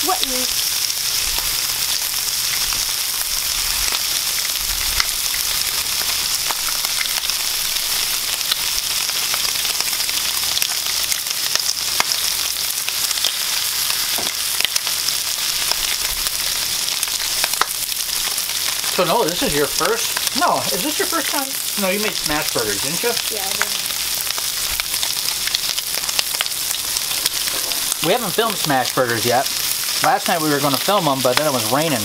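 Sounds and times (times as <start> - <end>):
food sizzling on a griddle: 0.0 - 32.0.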